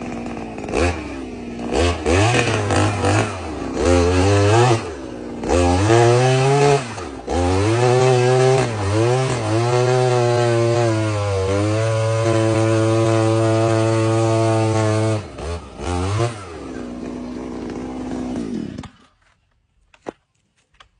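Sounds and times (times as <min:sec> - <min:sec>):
small petrol engine revving: 0:00.0 - 0:19.2.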